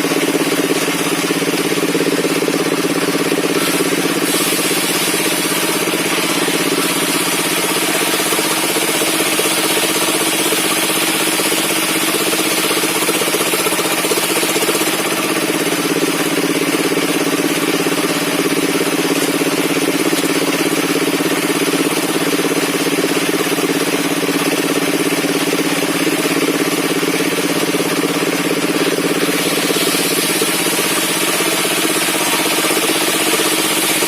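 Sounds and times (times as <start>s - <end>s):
sawmill machine drone: 0.0s - 34.0s.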